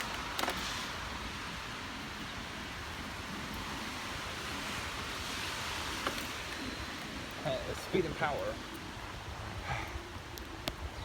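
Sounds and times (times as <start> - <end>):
hissing of heavy rain on road: 0.0 - 11.0.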